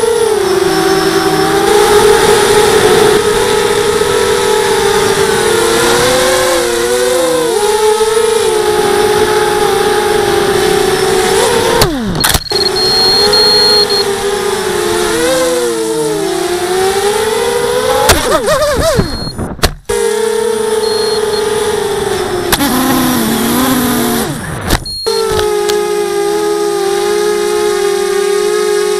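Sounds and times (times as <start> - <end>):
quadcopter motors whining: 0.0 - 28.9.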